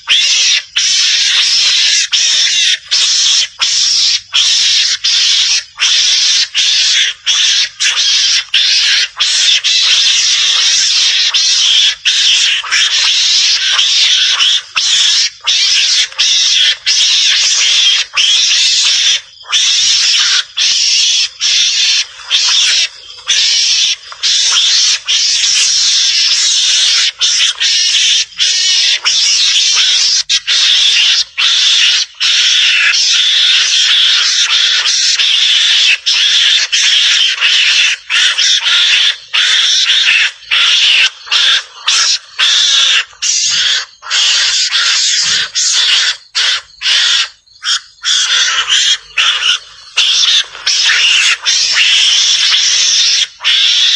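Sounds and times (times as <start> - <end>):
mongoose harsh hissing call: 0.0 - 53.9.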